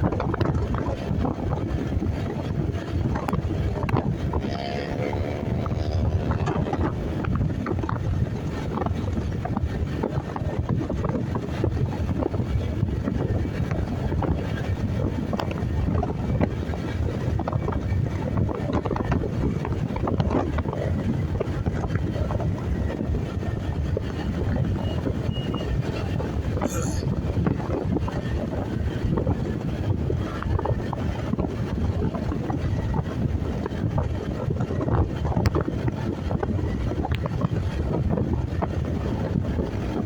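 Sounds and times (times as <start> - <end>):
motorcycle engine and road rumble: 0.0 - 40.0
wind buffeting microphone: 0.0 - 40.0.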